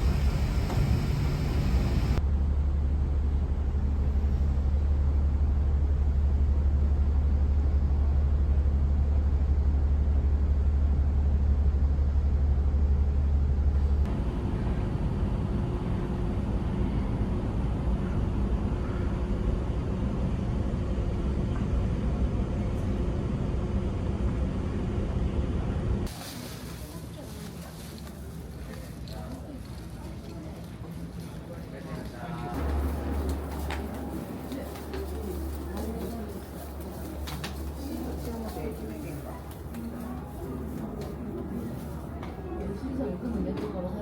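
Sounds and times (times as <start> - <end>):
low engine rumble: 0.0 - 44.0.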